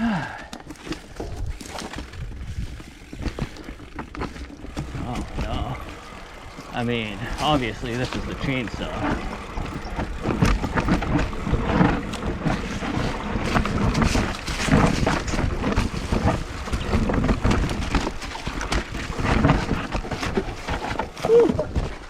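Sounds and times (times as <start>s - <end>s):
bike clattering over rough terrain: 0.0s - 22.0s.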